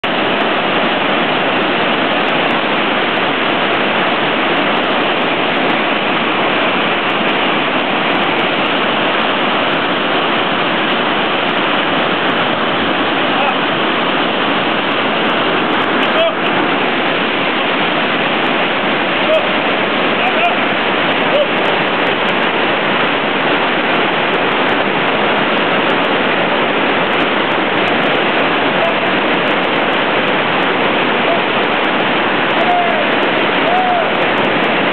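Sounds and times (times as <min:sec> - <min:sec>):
water rushing over boulders: 0:00.0 - 0:34.9.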